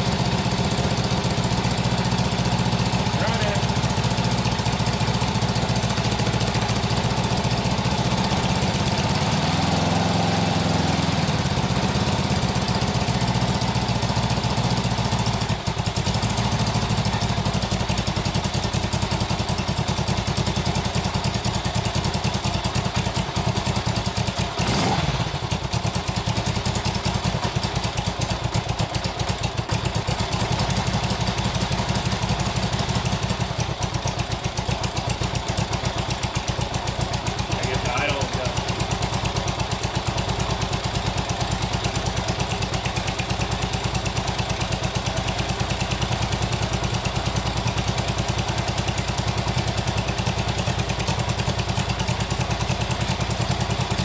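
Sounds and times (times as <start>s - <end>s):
motorcycle engine running and revving: 0.0s - 54.0s.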